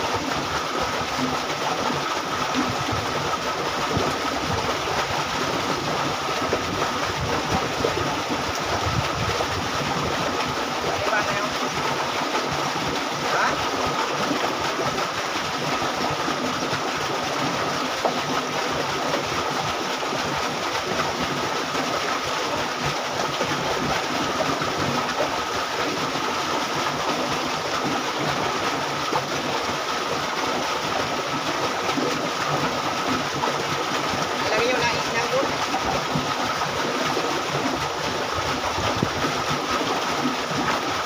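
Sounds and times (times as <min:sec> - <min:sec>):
water rushing along a canal: 0:00.0 - 0:41.0.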